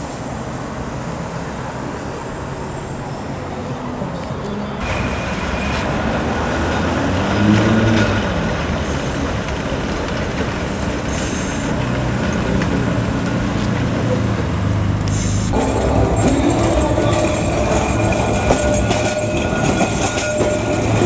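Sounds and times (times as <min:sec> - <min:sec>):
electric tram running: 0:00.0 - 0:21.0.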